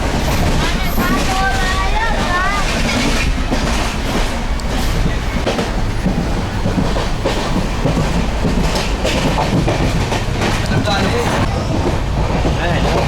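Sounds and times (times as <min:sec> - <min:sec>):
train carriage rumble and rattle: 0:00.0 - 0:13.0
wheels clicking over rail joints: 0:00.0 - 0:13.0.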